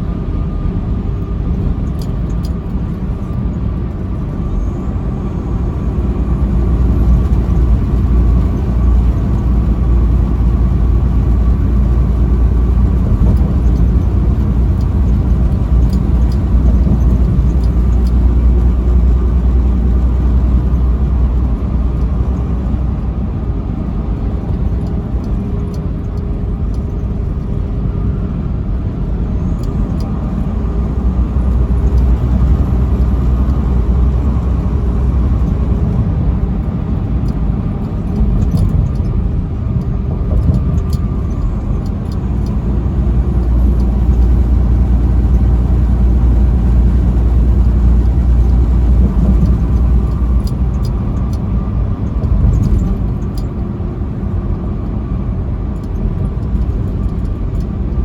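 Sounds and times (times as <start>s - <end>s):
truck engine and tyre rumble: 0.0s - 58.0s.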